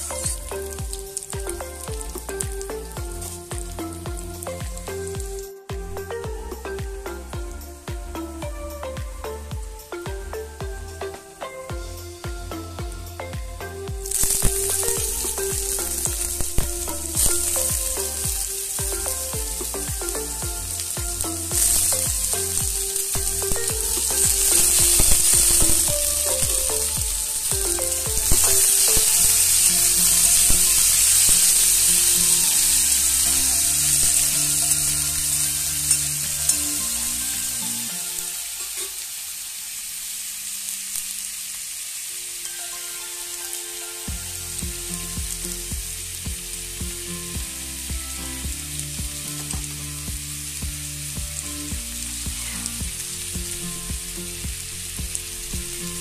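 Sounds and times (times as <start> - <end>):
potatoes sizzling in hot oil: 0.0 - 8.3, 14.0 - 56.0.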